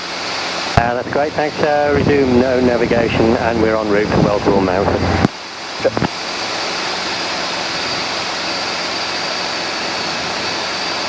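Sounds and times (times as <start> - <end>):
helicopter cabin noise: 0.0 - 11.0.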